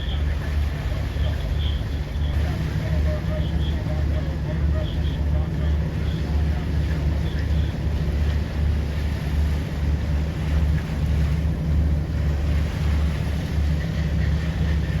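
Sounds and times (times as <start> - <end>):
faint water wash: 0.0 - 15.0.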